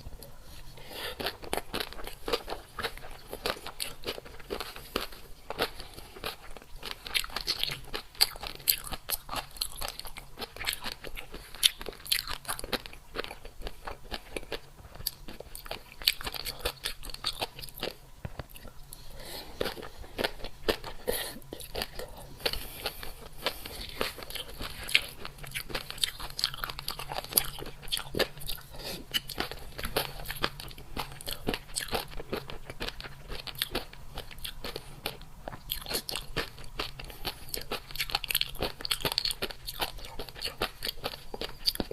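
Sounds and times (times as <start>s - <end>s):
crunching and chewing food: 0.0s - 41.9s.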